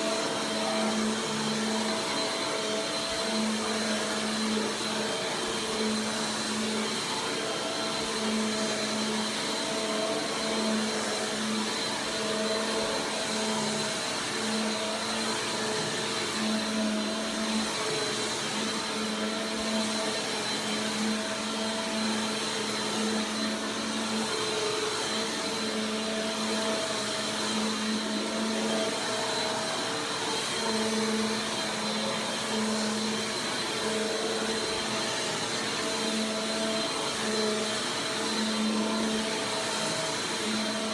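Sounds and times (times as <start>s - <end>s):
upright vacuum cleaner running: 0.0s - 40.9s.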